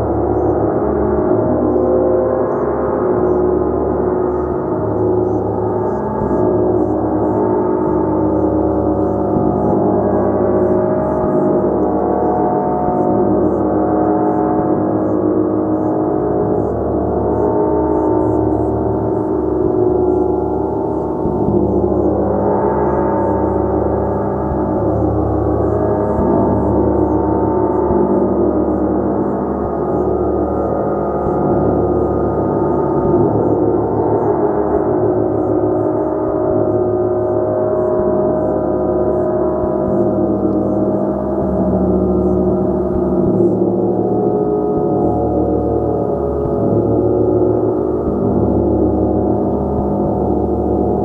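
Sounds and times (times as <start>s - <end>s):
gong shimmering tones: 0.0s - 51.0s.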